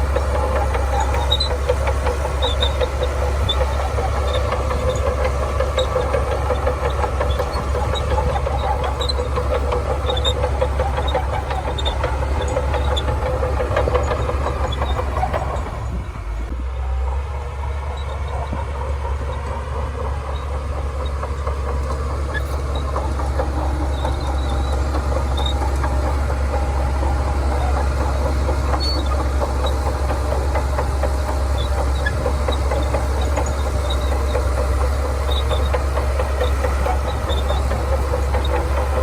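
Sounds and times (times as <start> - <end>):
steel tracks rattling and clanking: 0.0 - 16.6, 17.2 - 39.0
bulldozer diesel engine running: 0.0 - 39.0.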